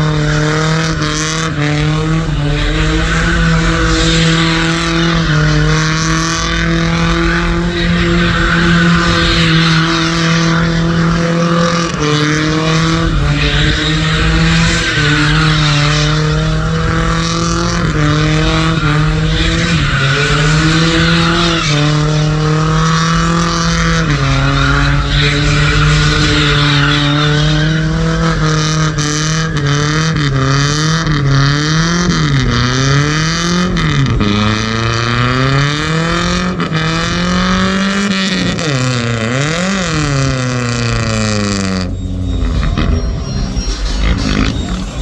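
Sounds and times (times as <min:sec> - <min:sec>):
loud truck engines running: 0:00.0 - 0:45.0.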